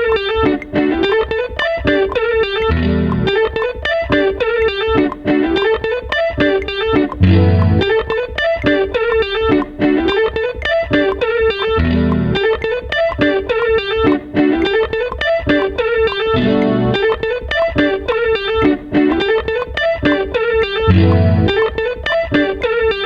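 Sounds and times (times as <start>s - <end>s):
plucked guitar-like riff: 0.0s - 23.0s.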